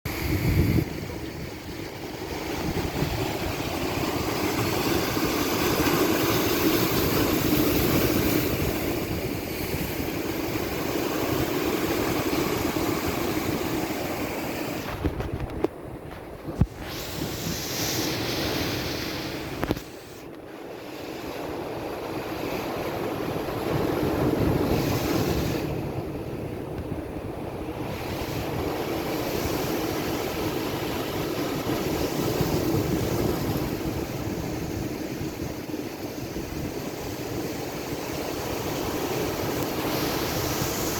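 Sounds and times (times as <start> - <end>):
waves breaking on shore: 0.1 - 40.9.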